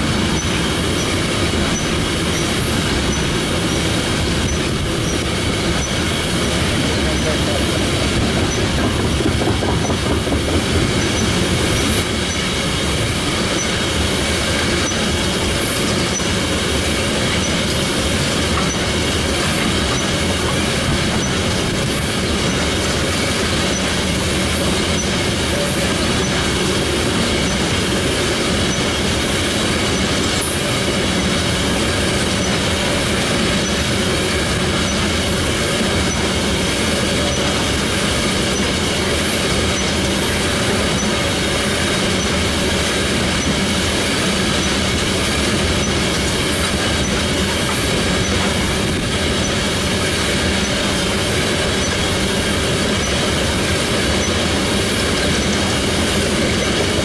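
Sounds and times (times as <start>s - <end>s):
steel wheels rumbling on rail: 0.0s - 57.0s
wheels clacking over rail joints: 0.0s - 57.0s.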